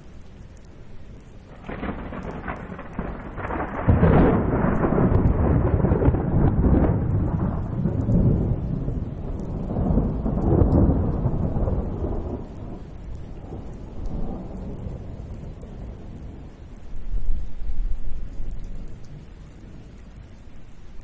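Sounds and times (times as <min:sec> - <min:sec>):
rain hissing: 0:00.0 - 0:21.0
thunder rumbling: 0:01.5 - 0:19.8.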